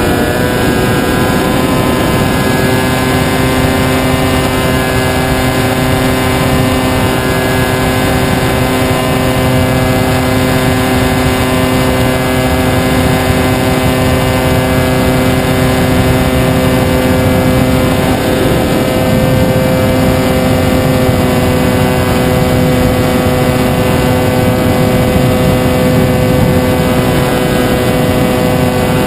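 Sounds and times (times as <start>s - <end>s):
model airplane motor and propeller: 0.0s - 29.0s.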